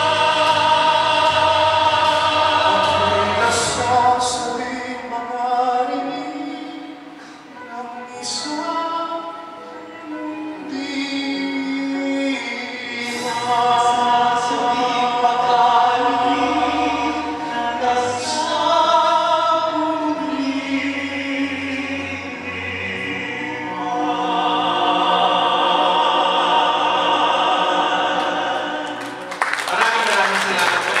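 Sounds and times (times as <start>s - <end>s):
men singing in harmony: 0.0s - 29.3s.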